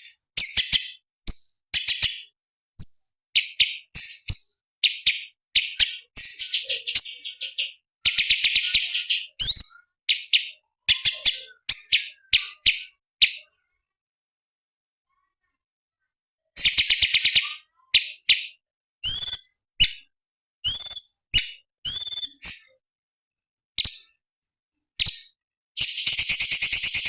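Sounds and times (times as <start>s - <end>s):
bird chattering song: 0.0s - 13.6s, 16.6s - 22.8s, 25.0s - 27.0s.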